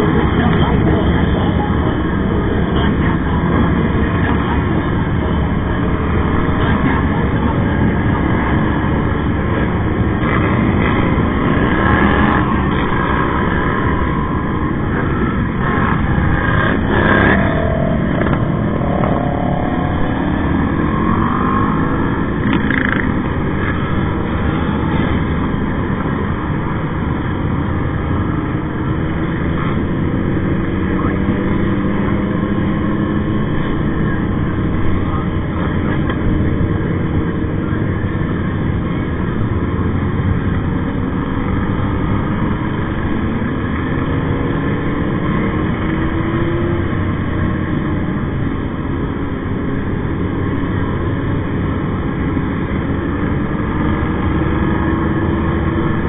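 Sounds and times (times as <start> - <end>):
motorcycle engines: 0.0 - 56.0
wind and road noise: 0.0 - 56.0.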